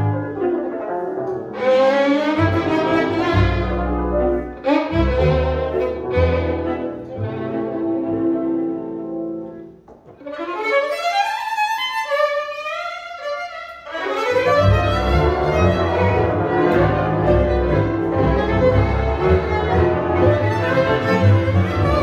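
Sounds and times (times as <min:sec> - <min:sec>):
double bass: 0:00.0 - 0:09.9, 0:14.0 - 0:22.0
second violin and viola: 0:01.2 - 0:08.6, 0:10.0 - 0:22.0
solo violin melody: 0:01.5 - 0:08.3, 0:10.1 - 0:22.0.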